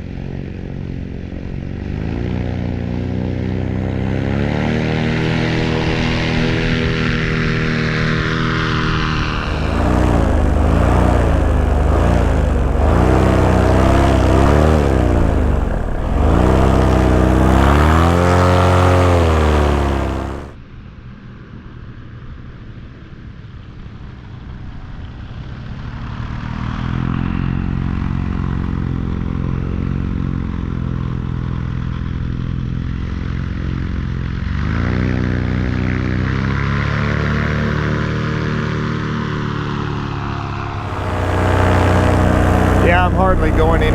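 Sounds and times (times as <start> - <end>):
paramotor engine and propeller: 0.0 - 20.6, 22.3 - 43.9.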